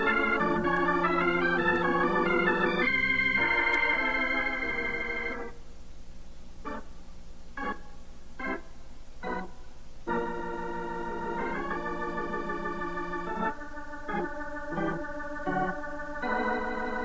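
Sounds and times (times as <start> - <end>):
organ music: 0.0 - 5.6, 6.6 - 6.9, 7.6 - 17.0.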